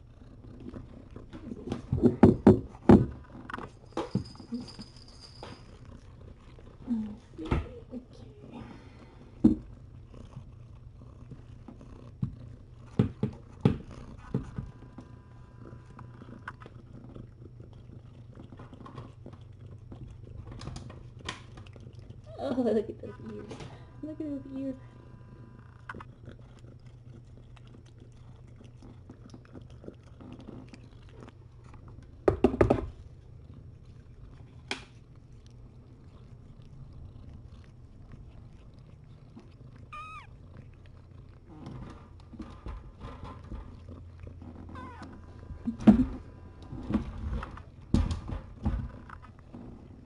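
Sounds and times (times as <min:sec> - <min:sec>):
cat purring: 0:00.0 - 0:50.0.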